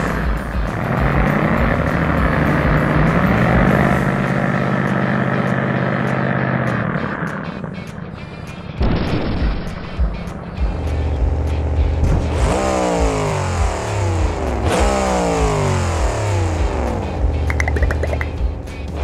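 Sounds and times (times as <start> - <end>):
truck engine revving: 0.0 - 7.8, 10.8 - 18.9.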